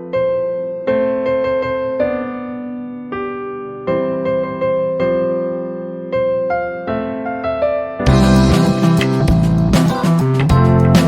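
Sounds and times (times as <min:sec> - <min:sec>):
gentle electric piano: 0:00.0 - 0:11.0.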